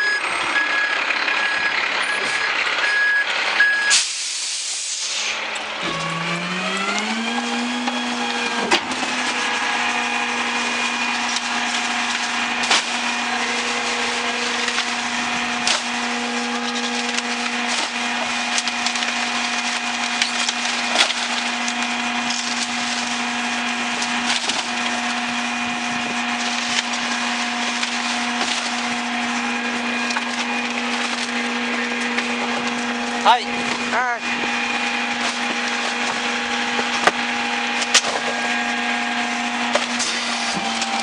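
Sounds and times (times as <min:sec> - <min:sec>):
garbage truck hydraulics whining: 0:00.0 - 0:41.0
trash cracking and snapping: 0:05.6 - 0:41.0.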